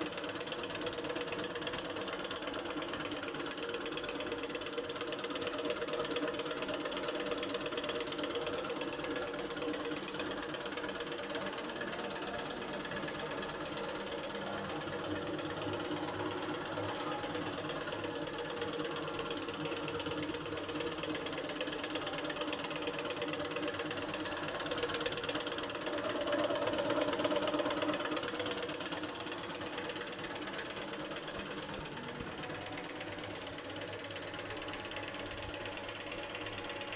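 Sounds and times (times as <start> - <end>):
machinery clicking and rattling: 0.0 - 36.9.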